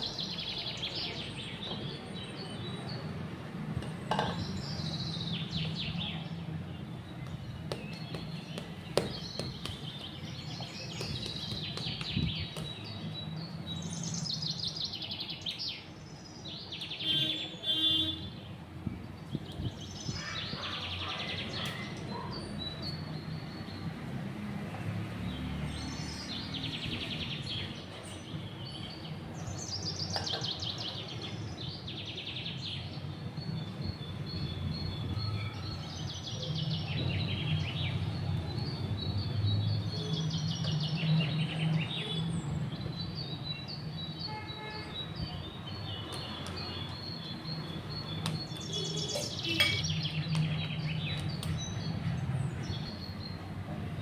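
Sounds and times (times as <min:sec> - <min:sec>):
small birds chirping: 0:00.0 - 0:24.1, 0:25.2 - 0:54.0.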